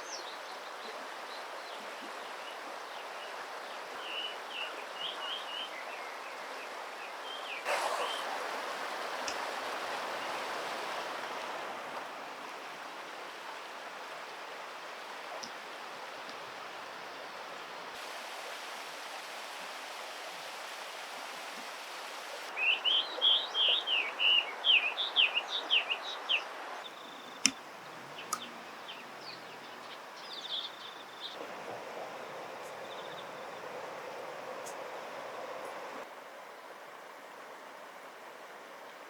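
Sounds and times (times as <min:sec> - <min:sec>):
flowing water: 0:00.0 - 0:39.0.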